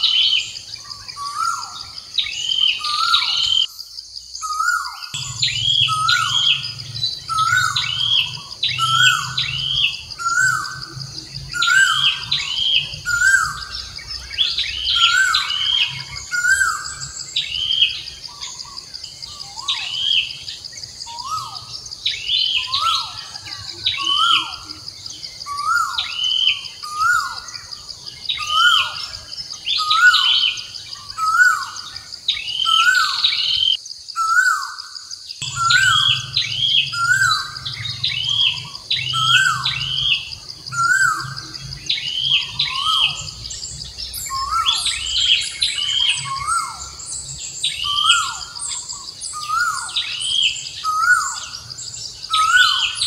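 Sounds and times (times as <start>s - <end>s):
birds chirping: 0.0s - 53.0s
insect drone: 0.0s - 53.0s.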